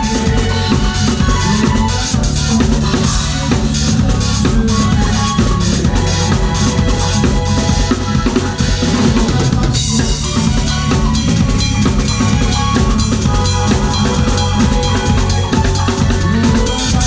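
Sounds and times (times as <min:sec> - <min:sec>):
fast drum kit playing: 0:00.0 - 0:17.0
sustained pitched instruments: 0:00.0 - 0:17.0.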